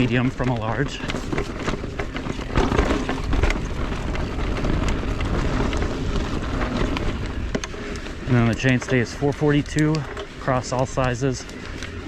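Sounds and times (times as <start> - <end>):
bike clicks and knocks: 0.0 - 12.0
bike tyres rumbling on dirt: 0.0 - 12.0.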